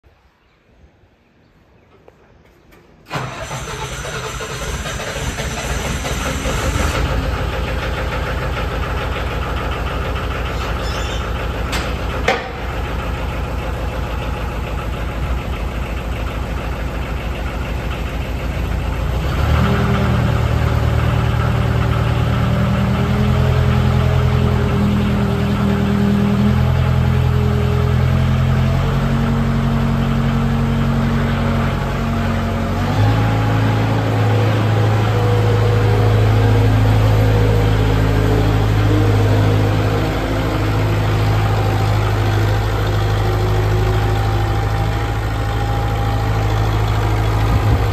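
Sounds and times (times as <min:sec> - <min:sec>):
skid steer engine running: 0:03.0 - 0:47.9.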